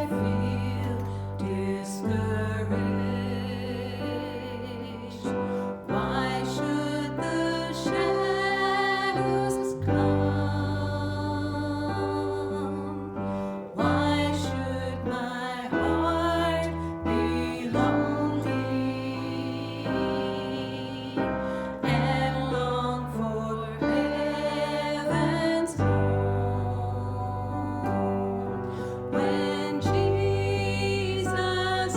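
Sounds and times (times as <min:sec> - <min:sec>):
slow keyboard chords: 0:00.0 - 0:31.9.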